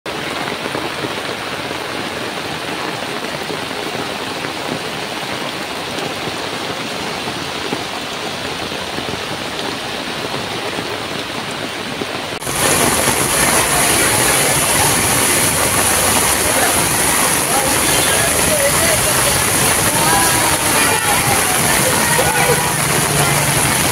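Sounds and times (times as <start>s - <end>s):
heavy rain on flooded street: 0.0s - 23.9s.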